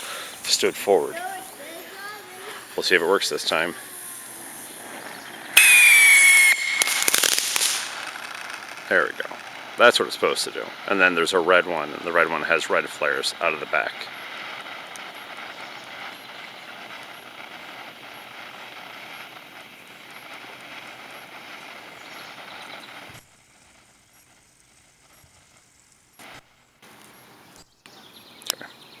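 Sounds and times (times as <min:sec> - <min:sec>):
firework fountain hissing: 0:00.0 - 0:25.6.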